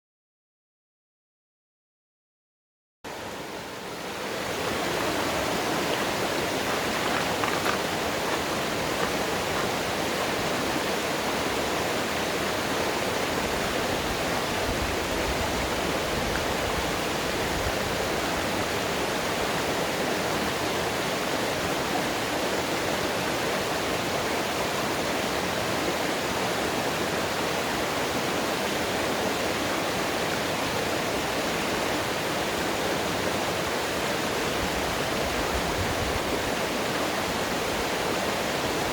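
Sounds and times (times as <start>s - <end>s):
mountain water rushing: 3.1s - 38.9s.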